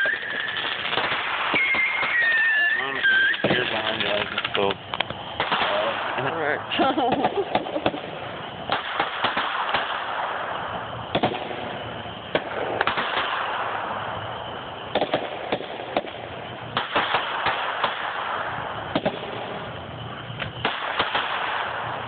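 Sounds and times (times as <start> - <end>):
fireworks pops and bangs: 0.0 - 22.0
steady rushing noise: 2.8 - 22.0.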